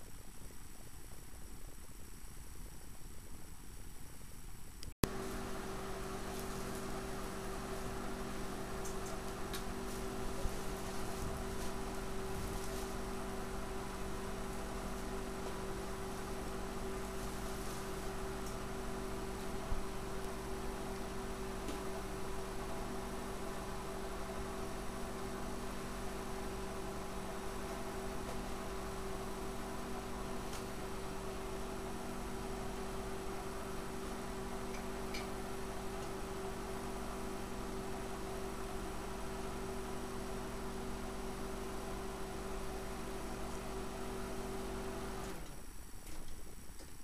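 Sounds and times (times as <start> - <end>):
constant hiss: 0.0 - 47.0
steady electrical hum: 0.0 - 47.0.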